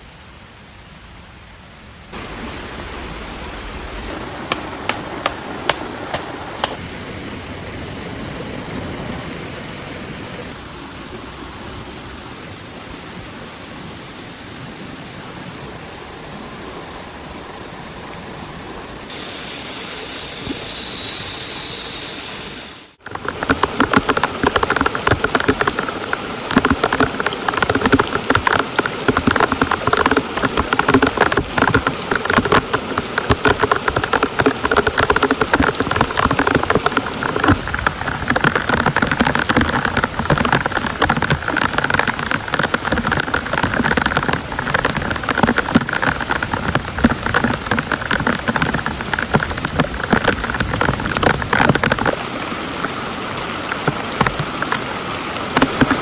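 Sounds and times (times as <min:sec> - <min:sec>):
heavy rain on tarp: 0:02.1 - 0:12.6, 0:19.1 - 0:56.0.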